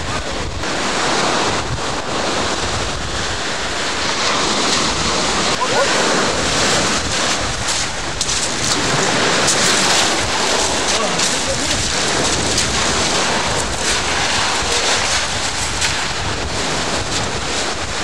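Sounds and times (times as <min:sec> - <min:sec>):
surf on pebble beach: 0:00.0 - 0:18.0
wind buffeting microphone: 0:00.0 - 0:18.0.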